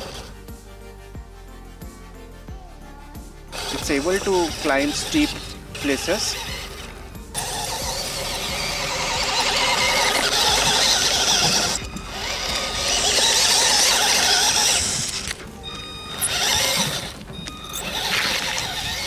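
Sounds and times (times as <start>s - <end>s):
toy car motor whining: 0.0s - 0.4s, 3.5s - 19.0s.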